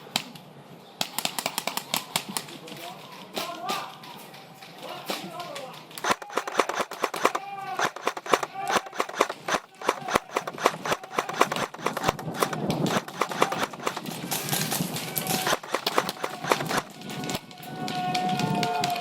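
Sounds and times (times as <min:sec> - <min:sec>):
airsoft guns firing: 0:01.0 - 0:02.5, 0:05.1 - 0:19.0.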